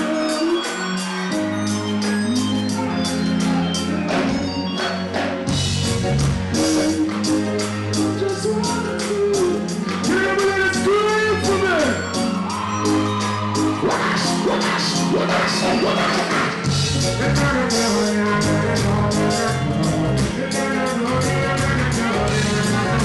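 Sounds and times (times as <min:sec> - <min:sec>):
reggae band playing: 0:00.0 - 0:23.0.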